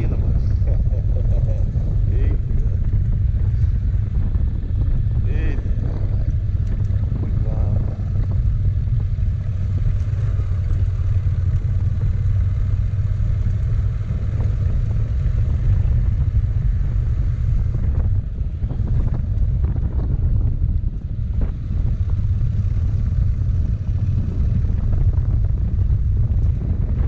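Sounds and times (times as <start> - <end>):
motorcycle engine rumble: 0.0 - 27.0
wind noise on microphone: 0.0 - 27.0.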